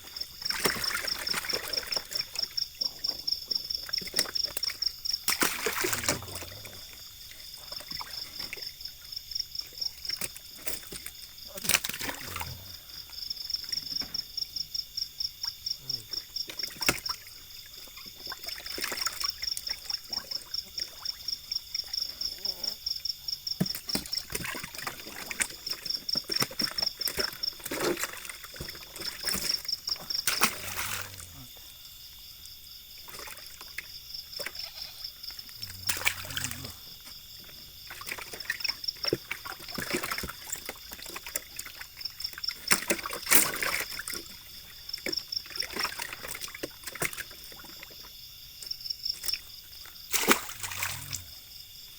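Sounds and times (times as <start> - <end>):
water splashing and trickling: 0.0 - 31.7, 32.8 - 51.6
insect chirring: 0.0 - 51.9.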